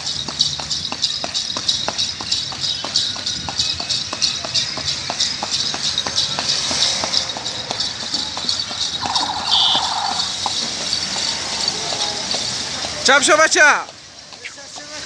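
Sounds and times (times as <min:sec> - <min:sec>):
horse hooves clip-clopping on wet street: 0:00.0 - 0:15.0.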